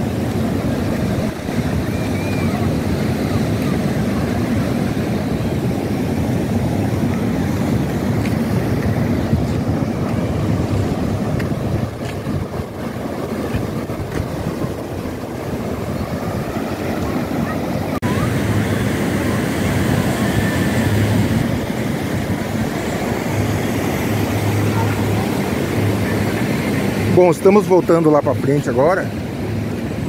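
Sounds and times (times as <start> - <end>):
ocean surf breaking: 0.0 - 30.0
wind rumbling on microphone: 0.0 - 30.0.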